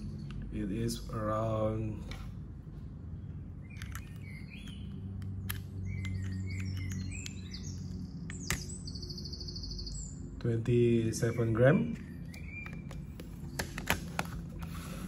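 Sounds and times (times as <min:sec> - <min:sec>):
small birds chirping and trilling: 0:00.0 - 0:14.0
low steady hum: 0:00.0 - 0:15.0.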